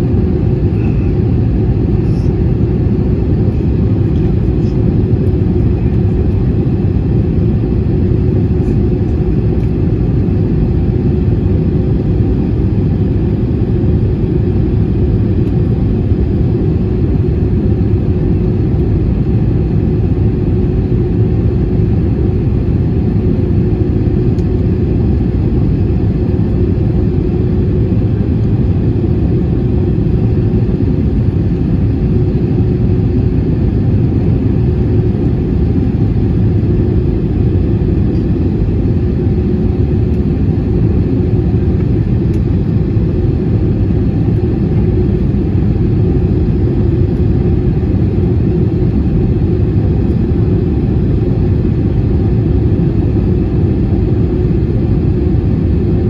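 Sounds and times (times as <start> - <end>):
steady cabin hum: 0.0 - 52.7
engine and airflow rumble: 0.0 - 56.0.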